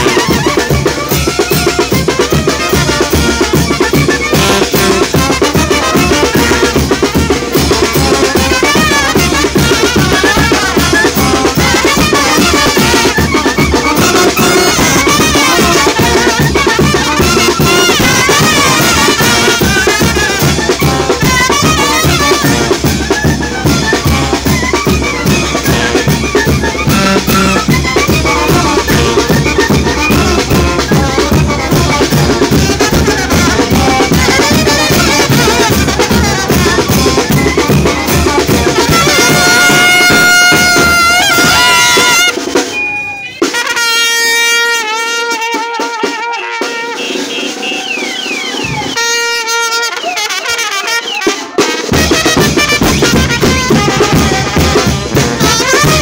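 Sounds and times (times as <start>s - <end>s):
bass drum: 0.0s - 42.6s, 51.9s - 56.0s
brass melody: 0.0s - 56.0s
snare drum: 0.0s - 56.0s.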